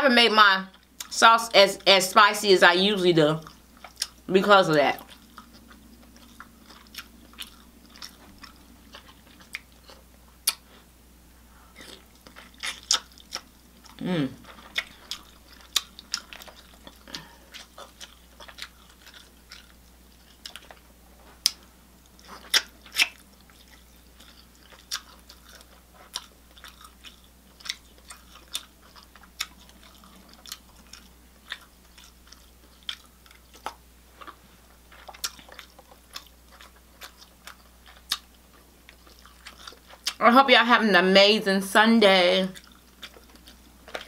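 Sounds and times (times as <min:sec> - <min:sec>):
person chewing and mouth smacking: 0:00.7 - 0:01.2, 0:03.4 - 0:04.3, 0:04.9 - 0:10.9, 0:11.7 - 0:40.2, 0:42.6 - 0:44.0.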